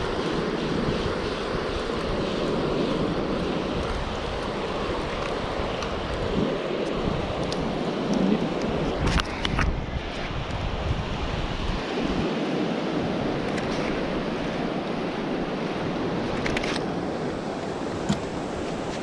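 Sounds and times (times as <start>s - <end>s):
surf washing up on beach: 0.0s - 19.0s
wind rushing over microphone: 0.0s - 19.0s.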